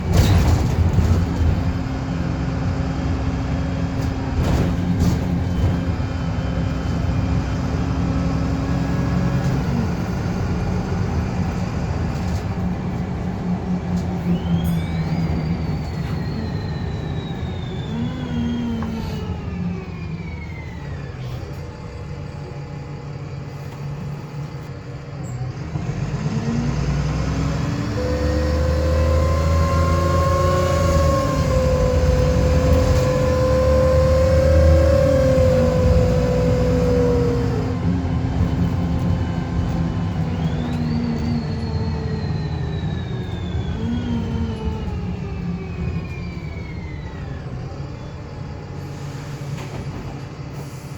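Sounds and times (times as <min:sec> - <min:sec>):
bus whirring whine: 0:00.0 - 0:50.9
diesel engine pulling: 0:00.0 - 0:50.9.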